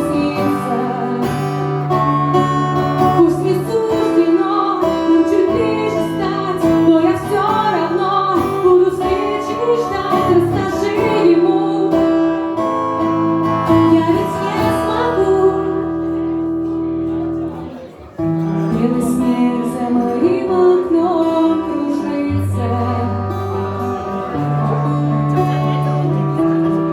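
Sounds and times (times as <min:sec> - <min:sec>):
woman singing: 0:00.0 - 0:16.2, 0:18.6 - 0:23.9
guitar accompaniment: 0:00.0 - 0:26.9.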